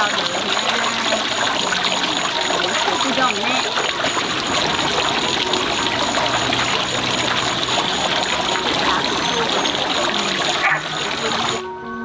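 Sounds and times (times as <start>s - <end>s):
stream water trickling: 0.0s - 11.8s.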